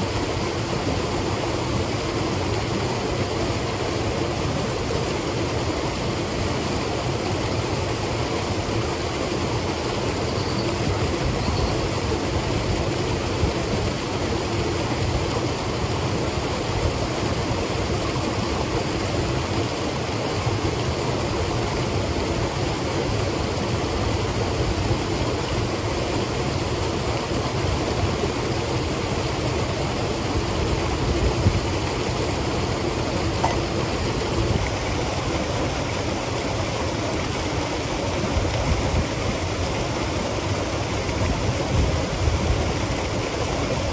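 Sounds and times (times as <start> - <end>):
mountain stream rushing: 0.0 - 43.9.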